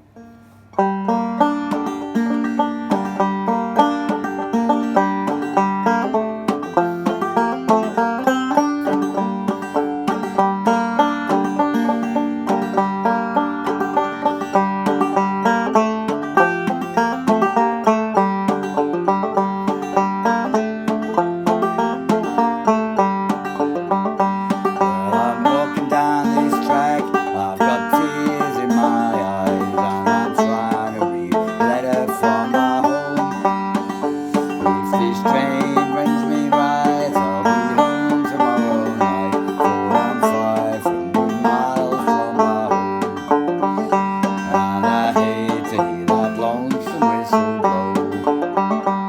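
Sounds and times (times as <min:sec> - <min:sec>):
banjo playing: 0:00.0 - 0:49.0.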